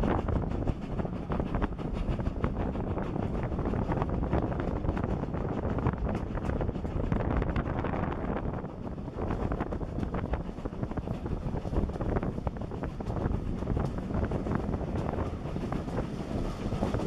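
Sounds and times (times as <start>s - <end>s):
coaches clattering on track: 0.0s - 17.0s
train rumble: 0.0s - 17.0s
wind buffeting microphone: 0.0s - 17.0s.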